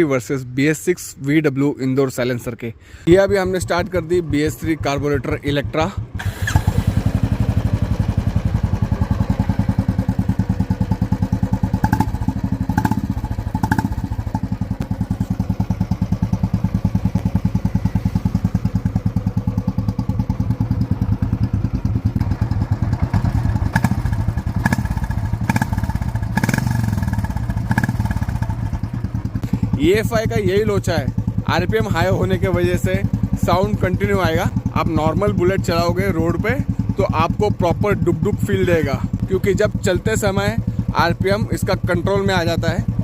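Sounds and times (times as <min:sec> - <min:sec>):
motorcycle engine idling: 0:03.1 - 0:43.0.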